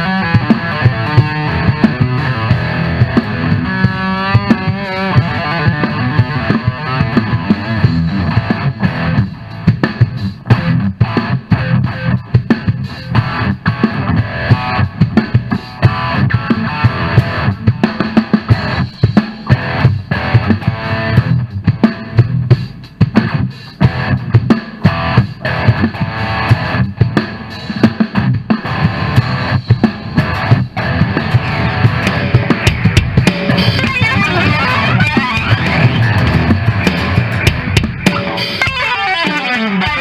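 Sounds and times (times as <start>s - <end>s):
electric guitar lead with bent notes: 0.0s - 9.7s, 10.4s - 22.4s, 23.3s - 27.5s, 28.1s - 40.0s
bass guitar: 0.0s - 40.0s
driving drum kit: 0.0s - 40.0s.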